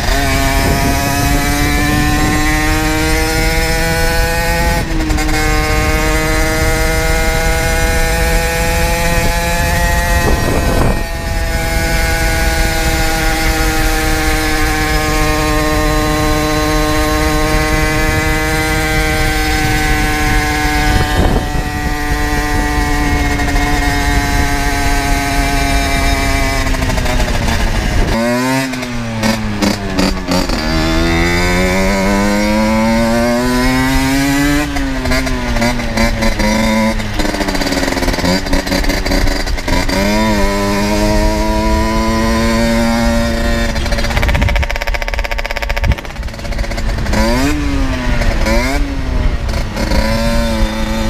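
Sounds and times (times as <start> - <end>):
two-stroke engine revving: 0.0 - 51.0
wind noise: 0.0 - 51.0.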